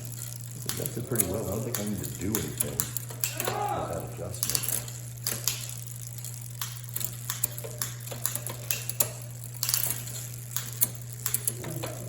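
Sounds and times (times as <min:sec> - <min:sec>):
bicycle chain and gears clicking: 0:00.0 - 0:12.0.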